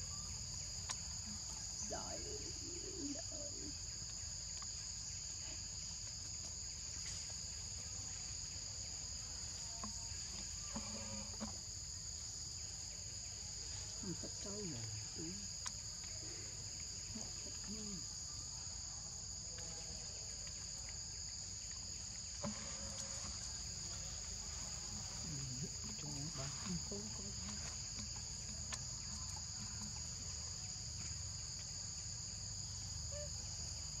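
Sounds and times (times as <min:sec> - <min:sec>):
insects chorus shrill drone: 0:00.0 - 0:05.9, 0:06.6 - 0:19.2, 0:19.9 - 0:34.0.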